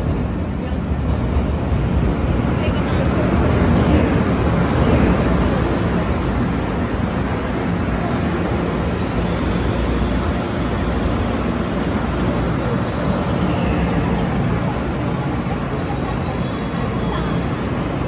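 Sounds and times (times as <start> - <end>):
train rumbling in motion: 0.0 - 18.0.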